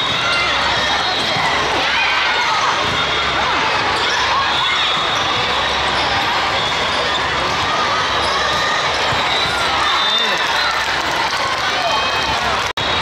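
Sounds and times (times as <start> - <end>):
many overlapping voices: 0.0 - 13.0.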